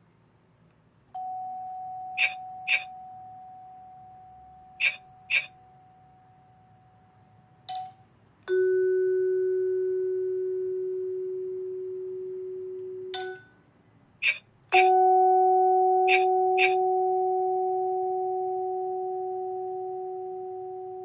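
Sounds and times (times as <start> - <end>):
vibraphone notes ringing: 1.2 - 7.1, 8.5 - 13.6, 14.7 - 21.0.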